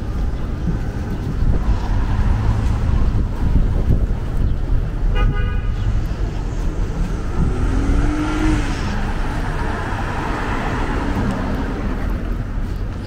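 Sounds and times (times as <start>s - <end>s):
steady low rumble: 0.0s - 13.0s
tyre and road noise: 0.0s - 13.0s
car engine pulling away: 0.6s - 5.0s, 5.8s - 12.8s.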